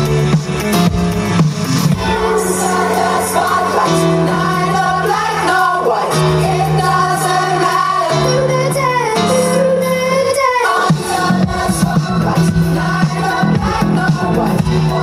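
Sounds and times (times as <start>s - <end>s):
held bass notes: 0.0s - 15.0s
pop song with singing: 0.0s - 15.0s.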